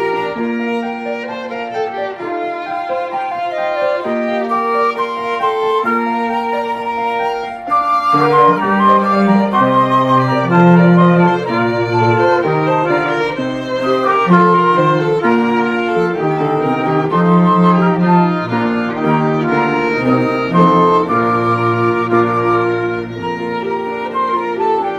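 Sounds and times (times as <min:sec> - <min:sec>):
cello-like low line: 0:00.0 - 0:24.9
violin melody: 0:00.0 - 0:24.9.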